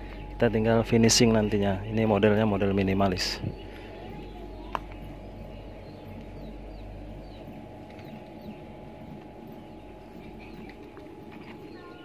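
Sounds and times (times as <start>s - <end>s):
faint hum: 0.0s - 12.0s
small birds chirping: 0.0s - 12.0s.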